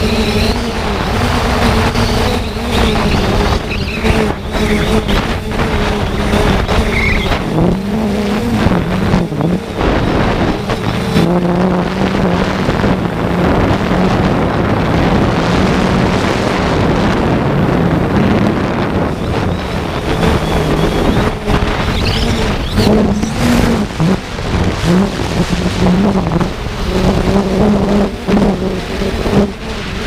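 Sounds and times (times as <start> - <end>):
drone motors buzzing: 0.0 - 30.0
wind rushing over microphone: 0.0 - 30.0.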